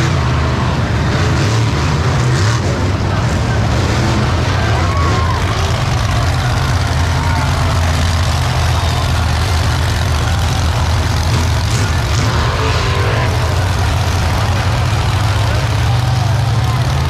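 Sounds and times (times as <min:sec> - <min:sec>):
faint voices: 0:00.0 - 0:17.0
large vehicle engine droning: 0:00.0 - 0:17.0.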